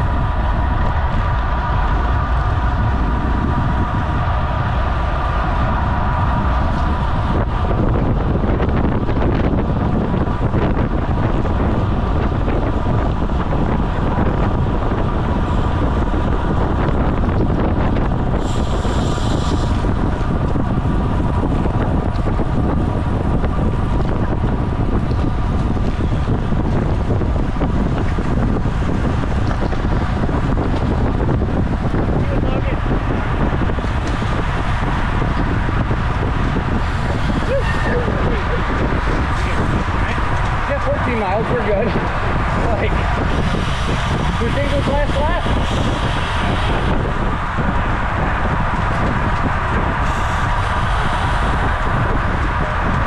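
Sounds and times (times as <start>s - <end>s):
wind rush over microphone: 0.0s - 53.0s.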